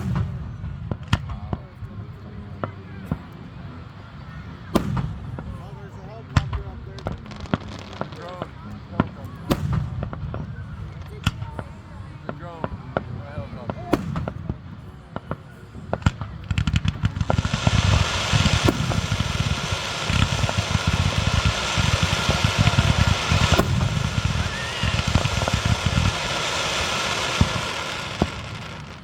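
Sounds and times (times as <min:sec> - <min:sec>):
fireworks crackling and pops: 0:00.0 - 0:03.6, 0:04.7 - 0:29.0
fireworks rumble: 0:00.0 - 0:29.0.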